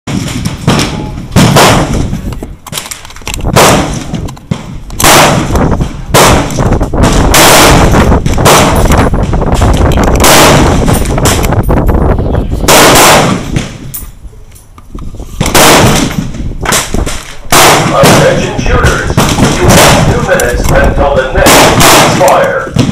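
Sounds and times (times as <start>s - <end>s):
rifle shots with echo: 0.1s - 11.6s, 12.6s - 13.9s, 15.4s - 22.9s.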